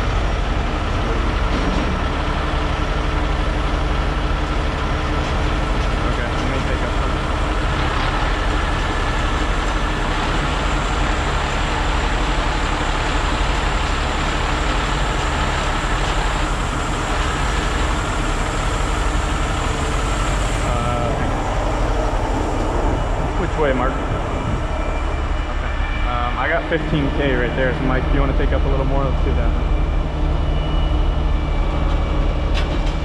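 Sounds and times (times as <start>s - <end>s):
diesel truck engines droning: 0.0s - 33.0s.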